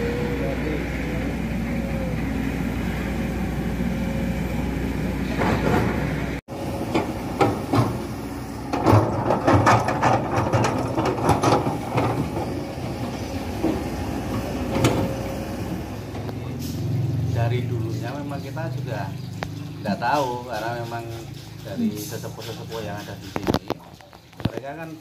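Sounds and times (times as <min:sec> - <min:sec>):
low rumble of road vehicles: 0:00.0 - 0:25.0.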